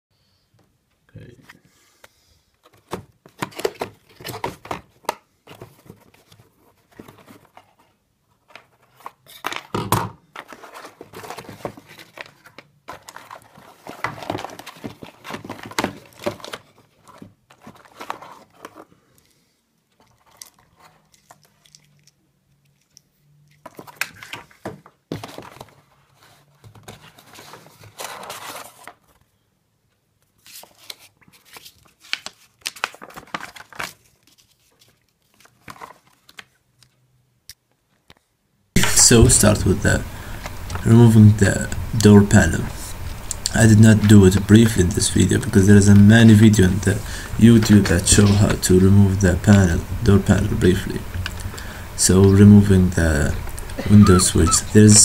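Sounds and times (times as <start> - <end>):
crinkling and rustling: 2.6 - 29.3, 30.2 - 37.0, 37.7 - 54.5.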